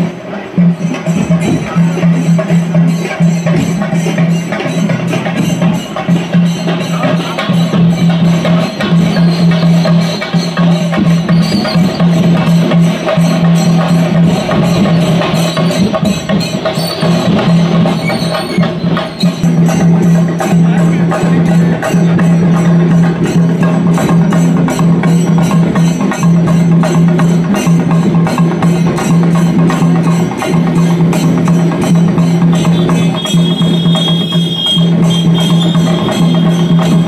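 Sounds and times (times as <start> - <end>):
fast drumming: 0.0 - 37.0.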